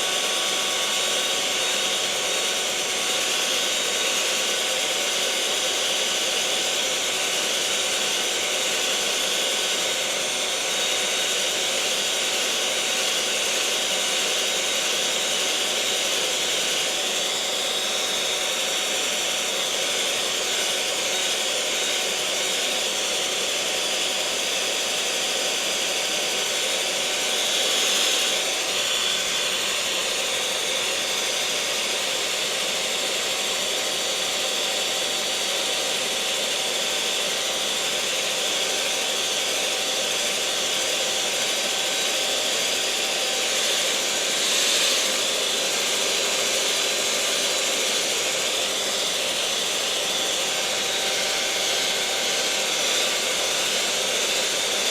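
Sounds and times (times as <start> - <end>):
electric mixer motor whirring: 0.0 - 54.9.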